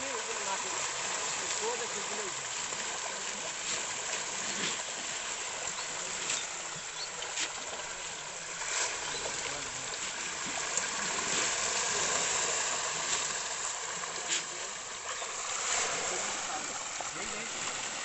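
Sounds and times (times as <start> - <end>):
fish thrashing water: 0.0 - 18.0.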